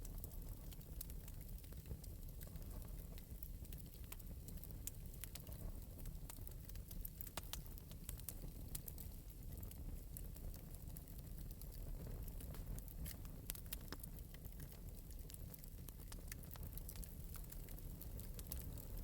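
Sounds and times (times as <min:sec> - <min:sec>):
fire crackling and popping: 0:00.0 - 0:19.0
low rumble of fire: 0:00.0 - 0:19.0.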